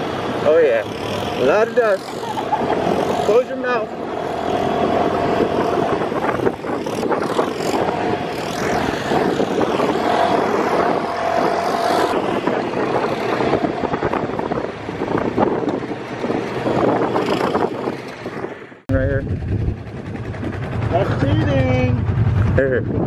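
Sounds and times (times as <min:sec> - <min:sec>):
buggy engine running: 0:00.0 - 0:23.0.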